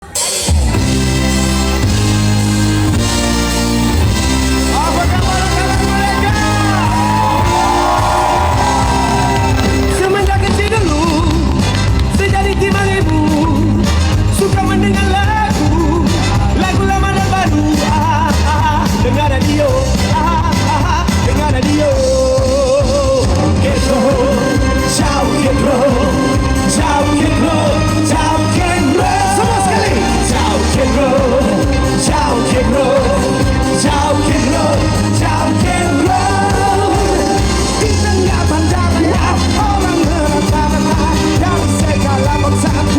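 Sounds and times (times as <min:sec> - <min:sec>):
pop-rock band playing: 0:00.0 - 0:42.9
steady bass beat: 0:00.9 - 0:42.9
lead vocalist singing: 0:04.6 - 0:42.9.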